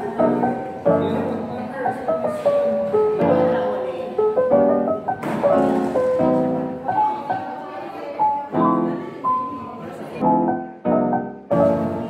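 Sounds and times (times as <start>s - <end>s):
background piano music: 0.0s - 12.0s.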